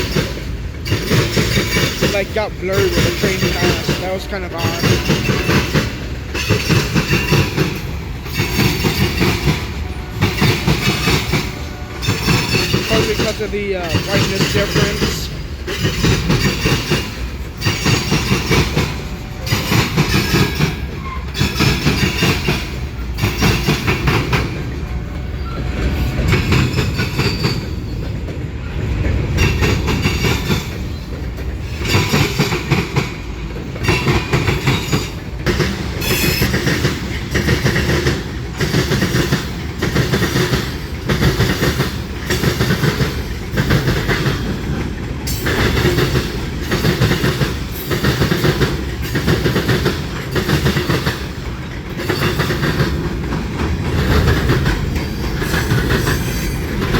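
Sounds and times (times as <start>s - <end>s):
freight train rumbling past: 0.0s - 56.9s
wheels clacking over rail joints: 0.0s - 56.9s.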